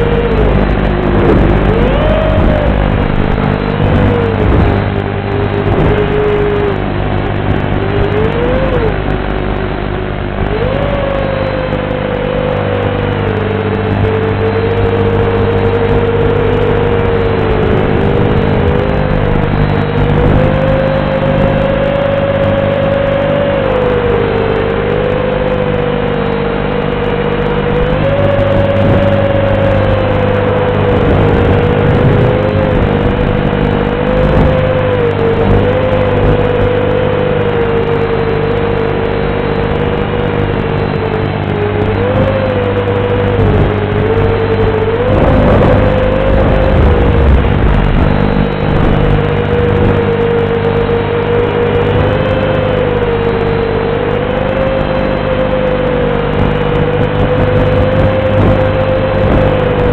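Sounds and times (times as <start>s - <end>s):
drone motors and propellers whining: 0.0s - 59.9s
dull narrow-band tone: 0.0s - 59.9s
steady hum: 0.0s - 59.9s.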